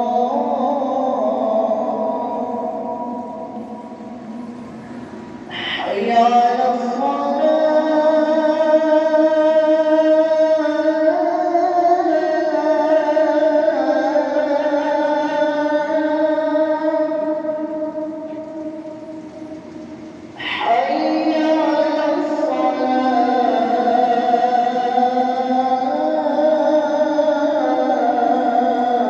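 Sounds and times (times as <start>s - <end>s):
man chanting recitation: 0.0s - 4.6s, 5.5s - 19.5s, 20.4s - 29.0s.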